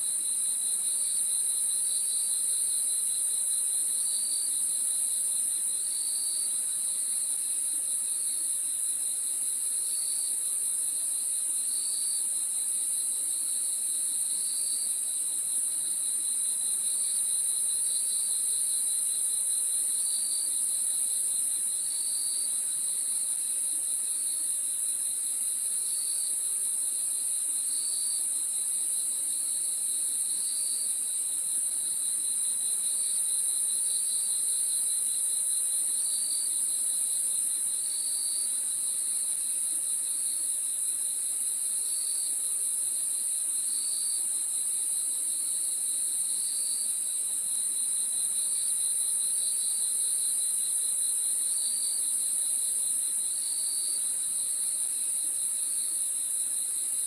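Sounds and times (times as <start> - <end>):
cricket pulsed chirp: 0.0 - 57.0
crickets trilling: 0.2 - 57.0.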